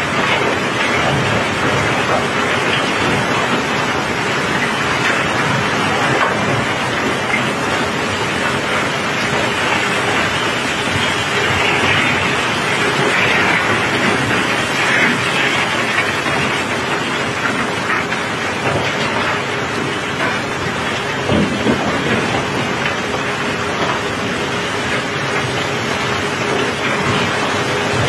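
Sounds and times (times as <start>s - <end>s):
rain on a steel deck: 0.0s - 28.0s.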